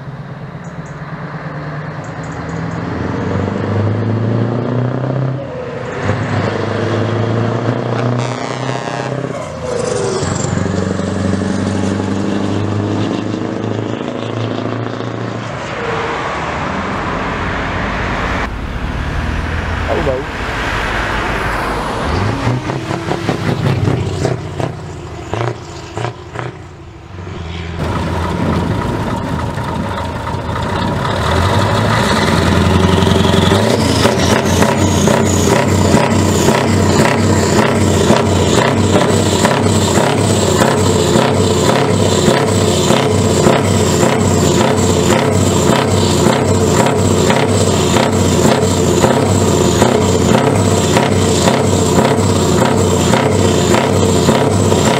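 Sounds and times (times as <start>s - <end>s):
diesel truck engine revving: 0.0s - 54.9s
high engine whine: 0.0s - 54.9s
truck approaching on road: 0.0s - 54.9s.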